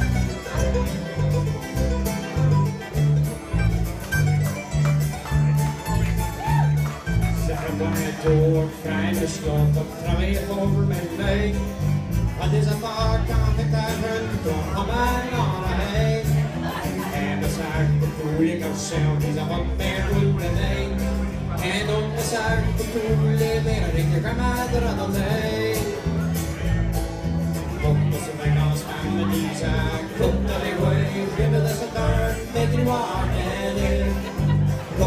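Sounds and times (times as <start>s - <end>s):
acoustic guitars strumming: 0.0s - 35.0s
bass guitar line: 0.0s - 35.0s.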